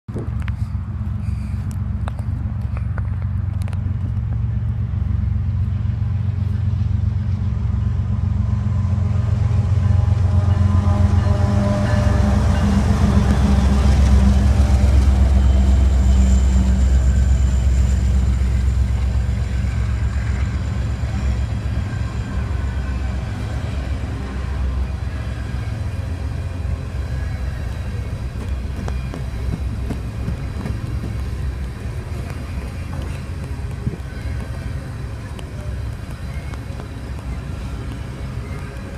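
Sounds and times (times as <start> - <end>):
diesel locomotives droning past: 0.1 - 38.9.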